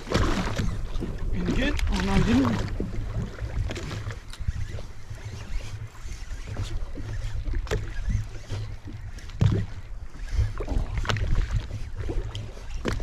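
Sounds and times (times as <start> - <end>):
knocks and splashes: 0.0 - 5.4, 6.4 - 13.0
boat engine rumble: 0.0 - 13.0.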